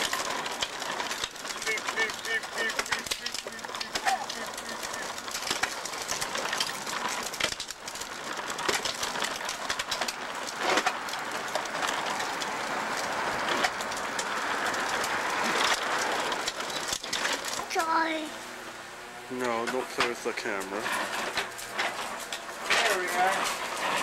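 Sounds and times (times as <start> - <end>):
toy wheels rattling on asphalt: 0.0 - 24.0.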